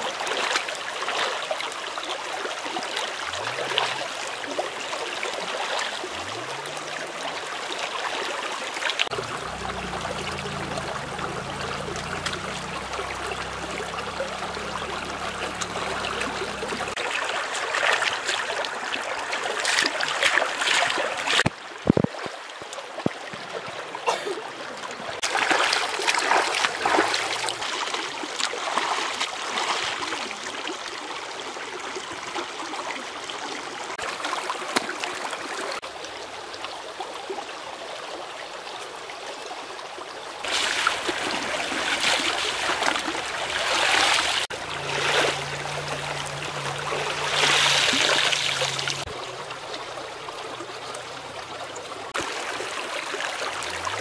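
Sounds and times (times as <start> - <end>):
water splashing and dripping: 0.0 - 37.3, 40.4 - 54.0
stream running over stones: 0.0 - 54.0.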